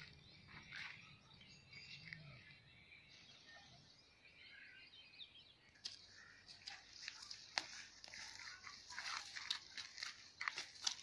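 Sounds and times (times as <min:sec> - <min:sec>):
faint bird chirps: 0:00.0 - 0:09.3.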